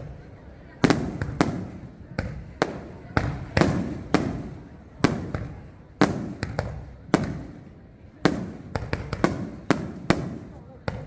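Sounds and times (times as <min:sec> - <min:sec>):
fireworks bangs with rumbling echo: 0:00.0 - 0:11.0
small firework cracks: 0:00.8 - 0:11.0.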